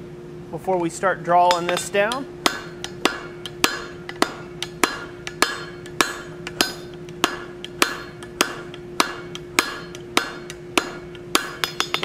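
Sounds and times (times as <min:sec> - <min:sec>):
hammer striking hot steel: 0:01.4 - 0:12.0.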